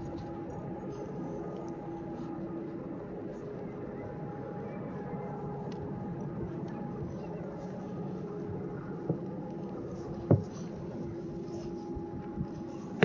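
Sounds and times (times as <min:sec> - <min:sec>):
mechanical running hum: 0:00.0 - 0:13.0.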